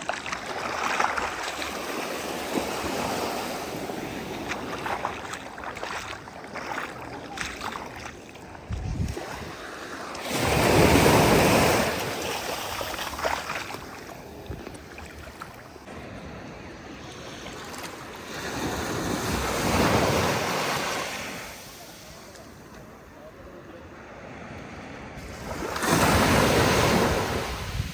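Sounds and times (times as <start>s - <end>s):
sea waves breaking: 0.0s - 23.0s, 24.0s - 27.9s.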